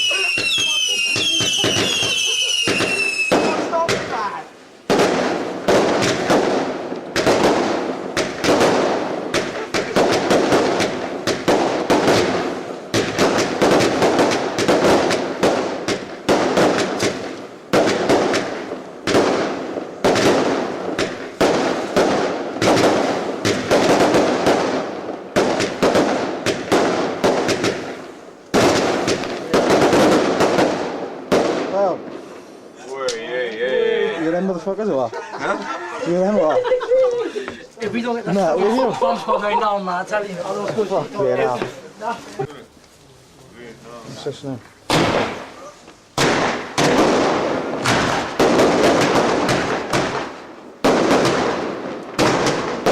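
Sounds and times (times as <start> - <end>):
fireworks bangs and crackles: 0.0 - 32.9, 37.4 - 52.9.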